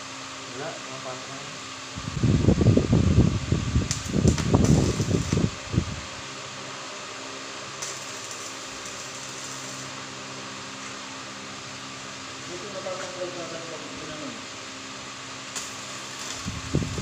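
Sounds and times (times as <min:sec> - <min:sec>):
welding arc humming: 0:00.0 - 0:17.0
arc welding crackling: 0:02.2 - 0:17.0.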